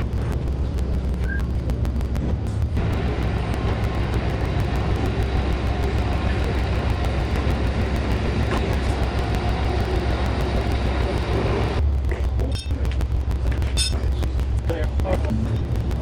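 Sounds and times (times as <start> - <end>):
large engine low rumble: 0.0 - 16.0.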